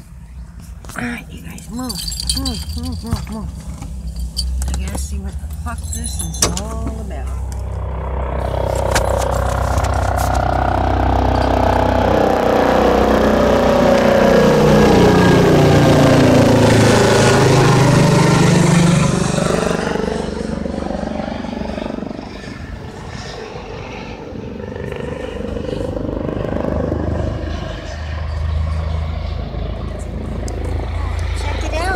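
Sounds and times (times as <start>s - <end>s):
vehicle engine passing: 0.6s - 31.9s.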